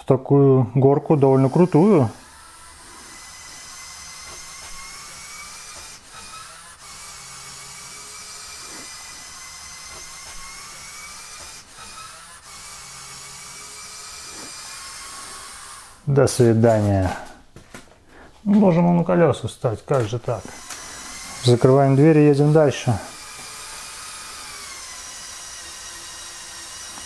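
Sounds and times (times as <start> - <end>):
toy truck electric motor whining: 0.9 - 17.0, 19.9 - 27.0.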